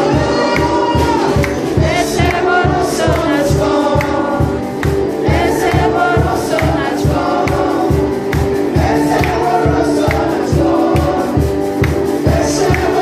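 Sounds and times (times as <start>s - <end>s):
worship band playing: 0.0s - 13.0s.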